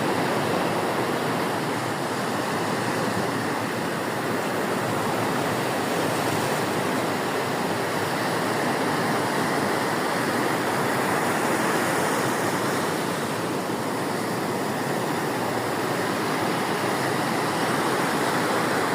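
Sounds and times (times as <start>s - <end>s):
sea surf rushing: 0.0s - 18.9s.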